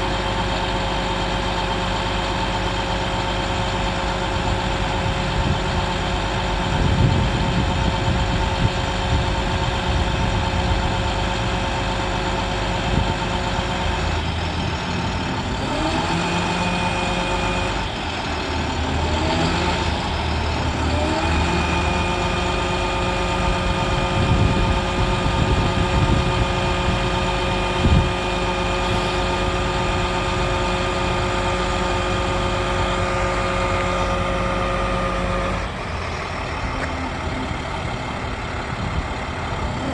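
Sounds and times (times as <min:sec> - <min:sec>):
diesel engine running: 0:00.0 - 0:39.9
hydraulic whine: 0:01.5 - 0:39.9.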